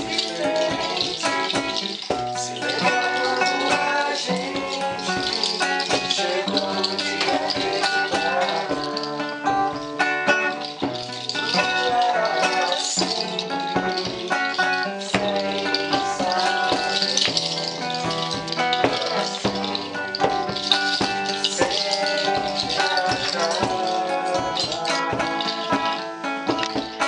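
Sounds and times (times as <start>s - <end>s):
acoustic guitars strumming: 0.0s - 27.0s
rattle shaken: 0.0s - 27.0s.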